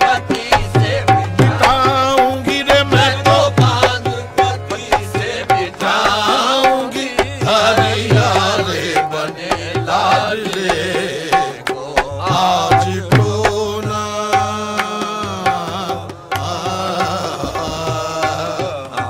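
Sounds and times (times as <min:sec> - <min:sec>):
tabla: 0:00.0 - 0:19.0
voices singing ornamented melody: 0:00.0 - 0:19.0.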